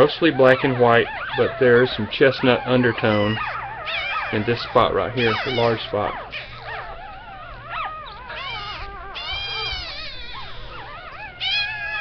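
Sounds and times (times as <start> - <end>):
puppies crying: 0.0 - 12.0.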